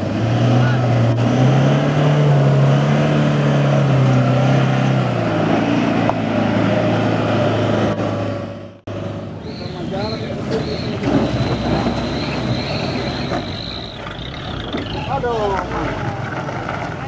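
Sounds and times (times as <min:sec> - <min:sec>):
truck engine driving through mud: 0:00.0 - 0:17.0.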